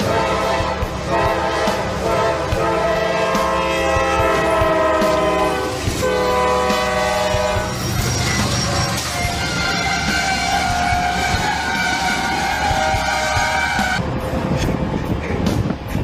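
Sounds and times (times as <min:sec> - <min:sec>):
locomotive air horn blasts: 0:00.0 - 0:14.0
train rumbling and clacking on rails: 0:00.0 - 0:16.0.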